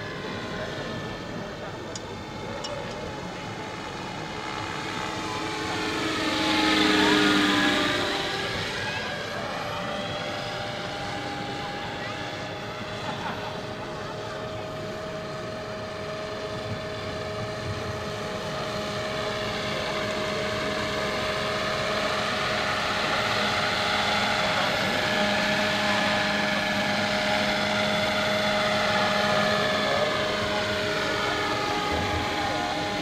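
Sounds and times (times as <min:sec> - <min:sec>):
model helicopter rotor whine: 0:00.0 - 0:33.0.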